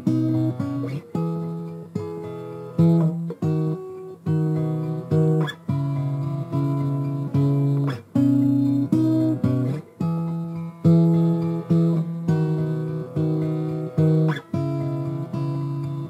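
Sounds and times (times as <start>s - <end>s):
guitar strumming chords: 0.0s - 16.0s.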